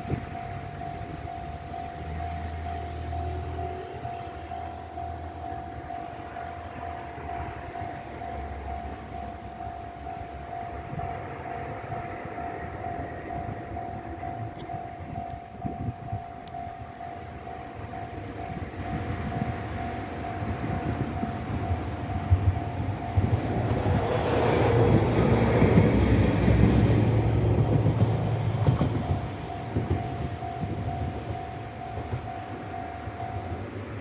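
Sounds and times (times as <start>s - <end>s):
level crossing warning bell: 0.0s - 34.0s
tram rumble: 0.0s - 34.0s.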